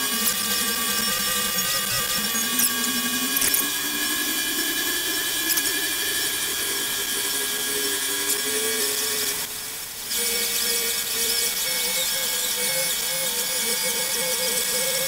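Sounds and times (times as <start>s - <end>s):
milling spindle whine: 0.0s - 15.0s.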